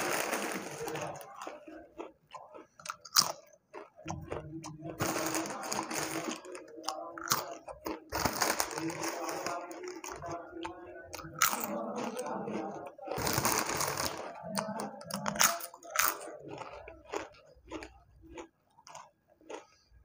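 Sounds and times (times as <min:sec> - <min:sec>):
corn puffs crunching: 0:00.0 - 0:19.8.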